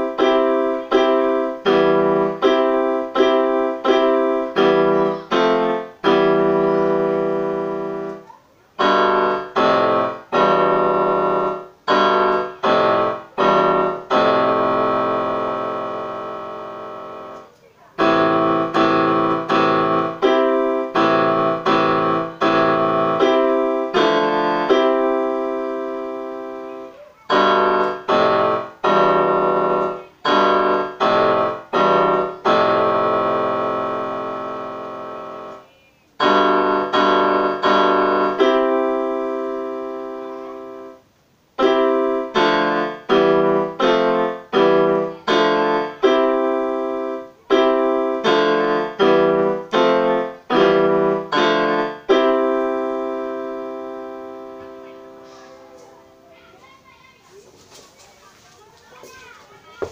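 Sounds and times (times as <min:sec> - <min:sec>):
electronic keyboard piano chords: 0:00.0 - 0:56.5.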